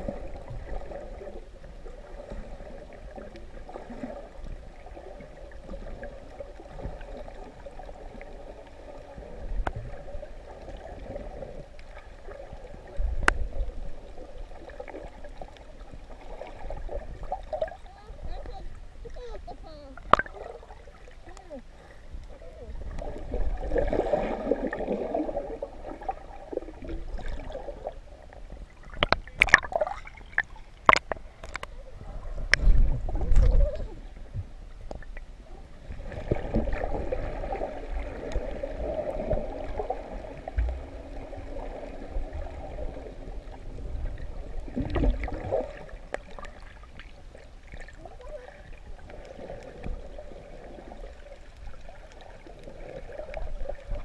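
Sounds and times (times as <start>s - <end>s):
muffled underwater gurgling: 0.0s - 34.6s, 35.4s - 54.0s.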